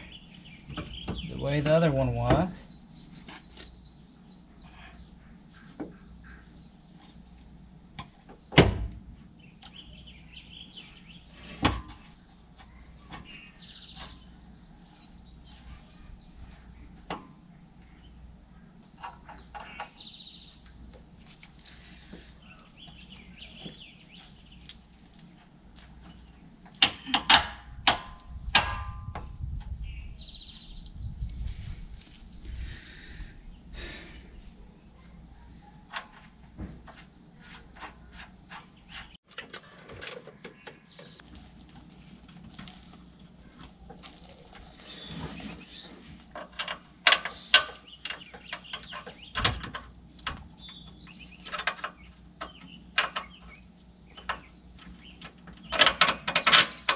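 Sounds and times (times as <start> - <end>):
birds chirping: 0.0 - 8.6, 9.2 - 27.3, 29.6 - 39.2, 40.3 - 56.9.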